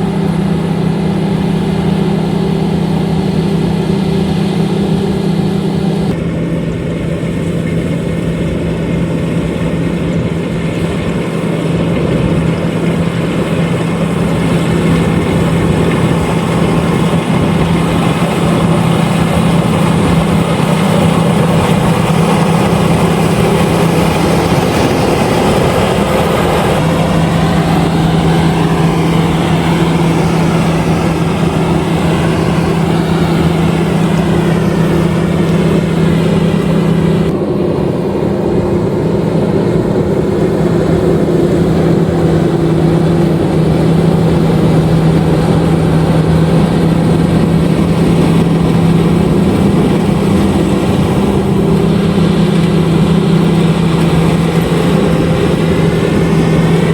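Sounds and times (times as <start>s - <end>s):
combine harvester engine hum: 0.0s - 56.9s
machinery hissing: 0.0s - 56.9s.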